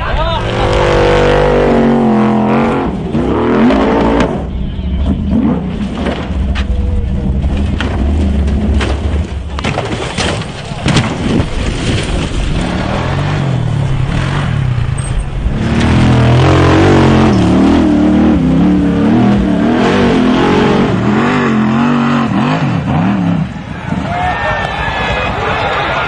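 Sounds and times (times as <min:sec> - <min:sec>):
off-road vehicle engine revving: 0:00.0 - 0:09.6, 0:10.7 - 0:24.1.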